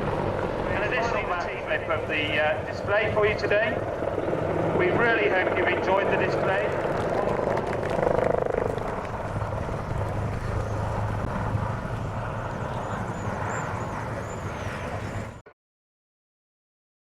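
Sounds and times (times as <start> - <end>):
helicopter rotors and engines: 0.0 - 15.5.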